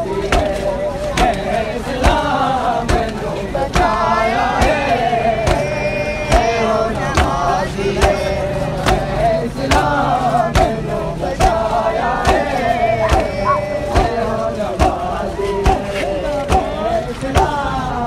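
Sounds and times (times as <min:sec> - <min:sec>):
men chanting in unison: 0:00.0 - 0:18.0
sharp rhythmic beats: 0:00.0 - 0:18.0.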